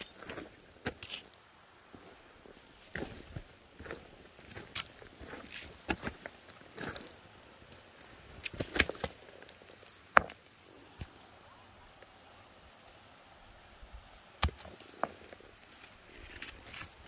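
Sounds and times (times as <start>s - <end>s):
footsteps crunching on rocky trail: 0.0s - 11.3s, 14.4s - 17.0s.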